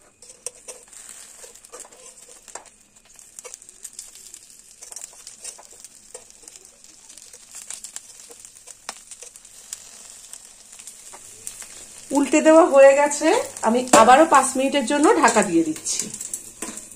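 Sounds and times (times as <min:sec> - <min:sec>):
fish frying in oil: 0:00.0 - 0:16.9.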